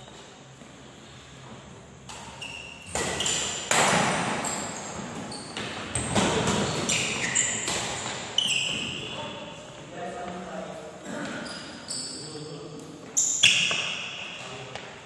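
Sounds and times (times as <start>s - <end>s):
shoes squeaking on court floor: 0.0s - 9.8s, 11.0s - 15.0s.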